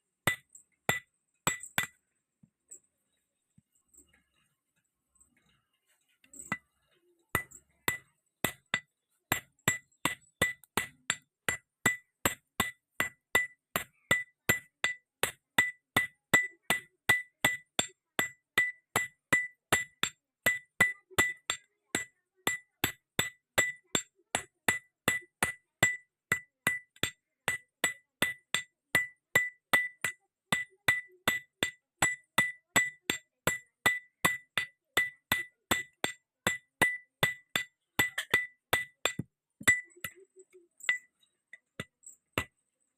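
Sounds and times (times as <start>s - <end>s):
hammer striking iron on anvil: 0.3s - 2.0s, 7.3s - 42.6s.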